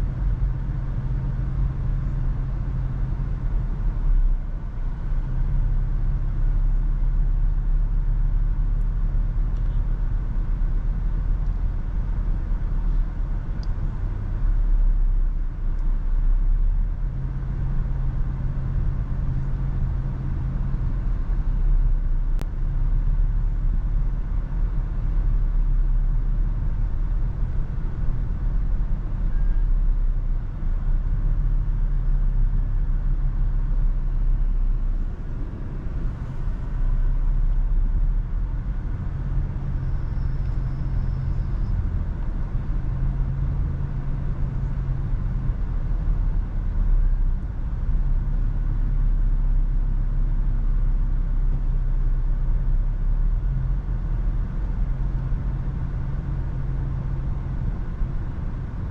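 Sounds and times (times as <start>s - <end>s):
car engine and road noise: 0.0s - 58.9s.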